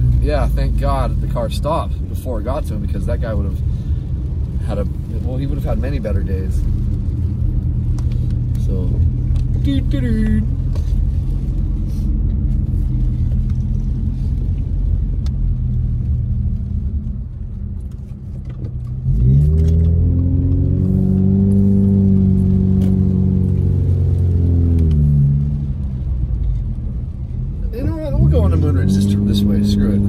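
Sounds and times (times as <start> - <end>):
car engine accelerating: 0.0 - 30.0
tyres on wet road: 0.0 - 30.0.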